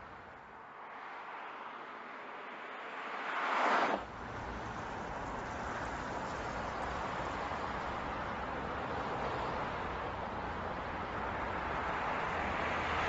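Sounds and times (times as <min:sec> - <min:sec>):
car passing by: 0:00.0 - 0:13.0
road noise with low rumble: 0:00.0 - 0:13.0.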